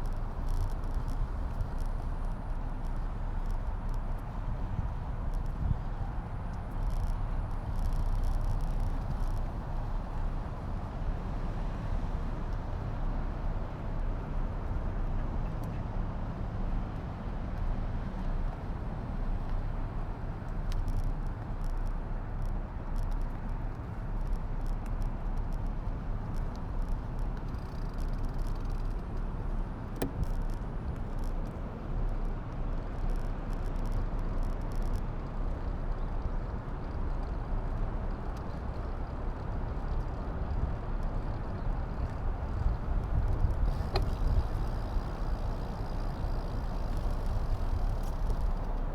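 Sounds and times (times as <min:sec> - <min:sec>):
light ticks: 0:00.0 - 0:13.8, 0:15.4 - 0:48.9
wind rumble on microphone: 0:00.0 - 0:48.9.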